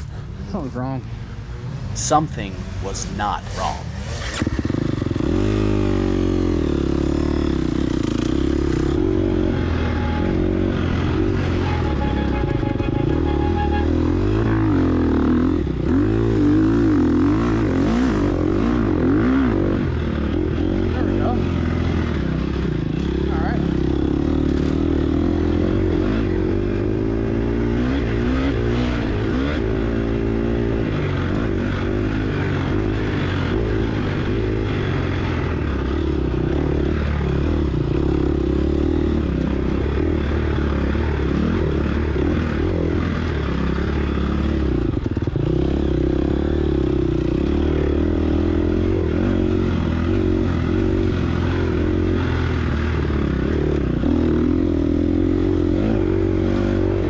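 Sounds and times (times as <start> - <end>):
dirt bike engine revving: 1.6 - 57.0.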